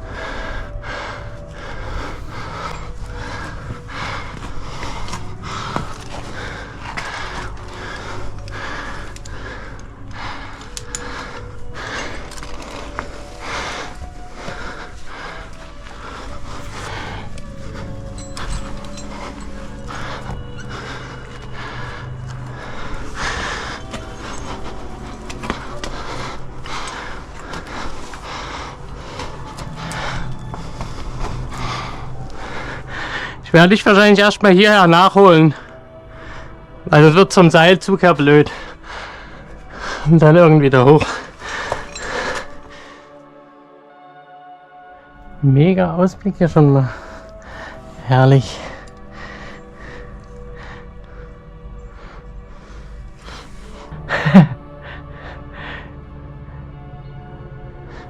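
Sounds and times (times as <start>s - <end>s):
heavy rhythmic breathing: 0.0s - 43.7s, 45.1s - 58.0s.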